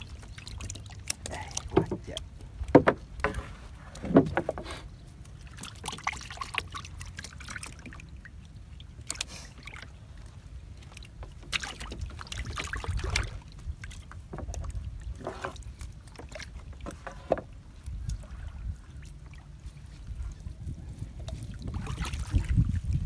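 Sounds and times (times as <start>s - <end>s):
water trickling and dripping: 0.0s - 3.4s, 5.1s - 23.0s.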